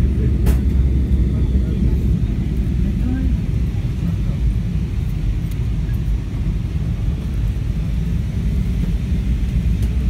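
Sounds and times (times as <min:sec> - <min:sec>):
airliner engines and airflow rumble: 0:00.0 - 0:10.0.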